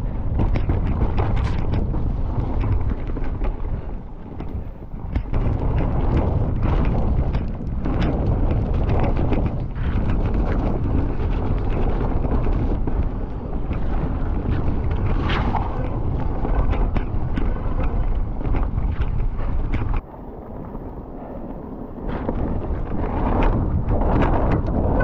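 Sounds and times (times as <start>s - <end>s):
bike clicks and rattles: 0.0s - 20.1s, 22.0s - 25.0s
bike tyre noise: 0.0s - 25.0s
wind rumbling on microphone: 0.0s - 25.0s.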